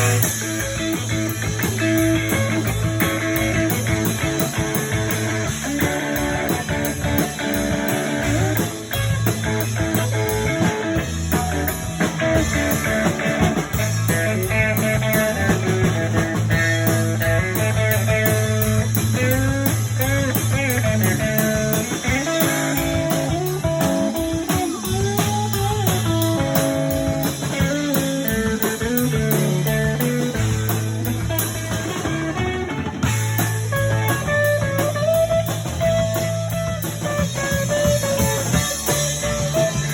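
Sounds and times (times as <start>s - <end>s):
instrumental blues guitar music: 0.0s - 39.9s.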